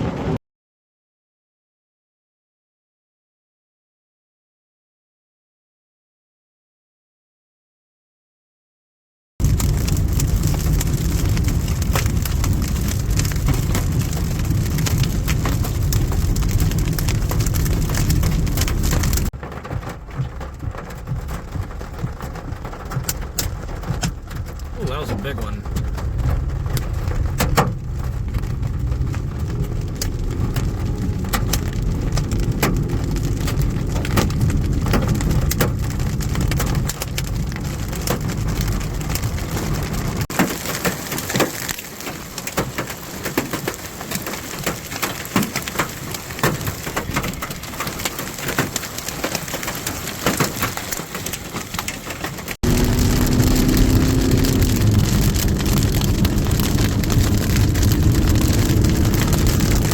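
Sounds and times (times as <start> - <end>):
car road rumble: 0.0 - 0.4, 9.4 - 59.9
rain drops tapping on car: 9.4 - 59.9.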